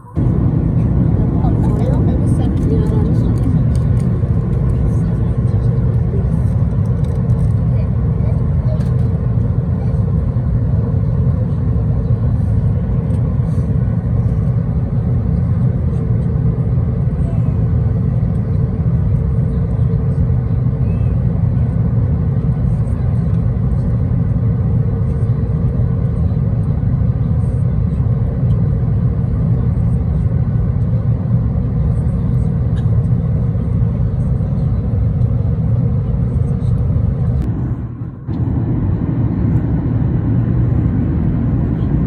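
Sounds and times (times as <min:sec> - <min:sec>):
airliner engines rumbling: 0:00.0 - 0:42.0.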